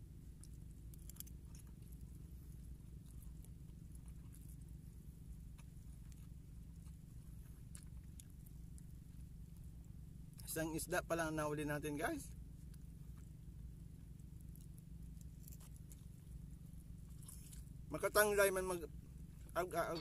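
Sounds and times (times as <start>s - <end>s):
faint chewing: 0.0s - 10.6s, 12.3s - 20.0s
low steady rumble: 0.0s - 20.0s.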